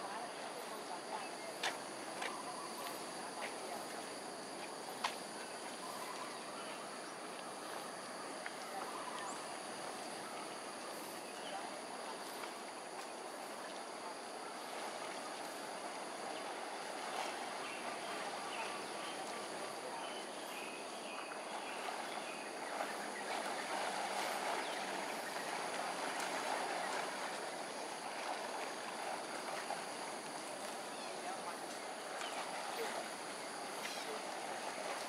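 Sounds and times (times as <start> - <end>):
flowing canal water: 0.0 - 35.0.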